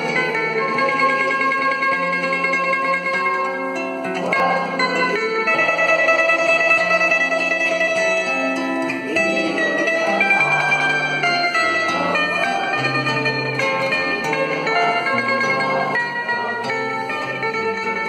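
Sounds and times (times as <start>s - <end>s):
plucked stringed instrument melody: 0.0s - 18.0s.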